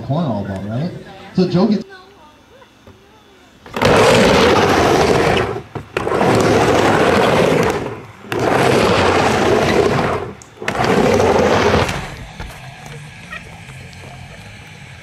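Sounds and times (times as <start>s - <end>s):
skateboard wheels rolling on concrete: 2.8s - 15.0s.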